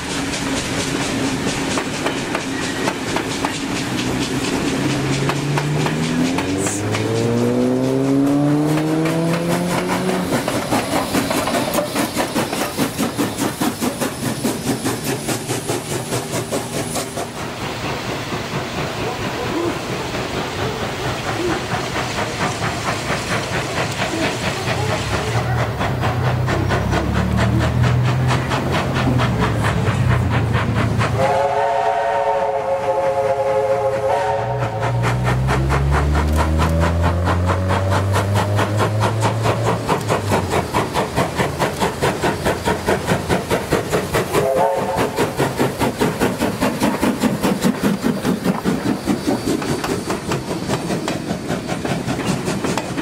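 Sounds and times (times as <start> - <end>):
steam locomotives working: 0.0 - 53.0
train wheels beating over rail joints: 0.0 - 53.0.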